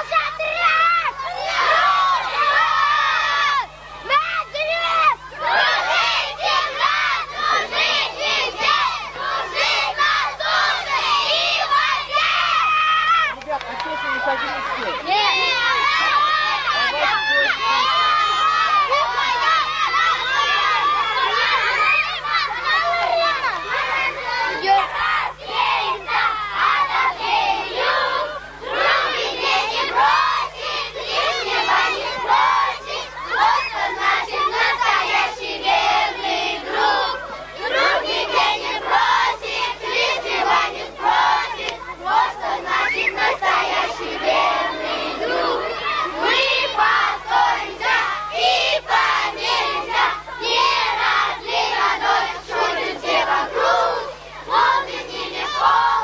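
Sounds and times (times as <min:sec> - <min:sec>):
children chanting in unison: 0:00.0 - 0:13.4, 0:14.1 - 0:56.0.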